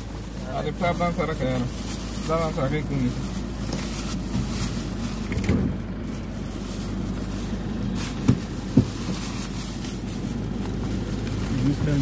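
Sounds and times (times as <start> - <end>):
car idling: 0.0 - 12.0.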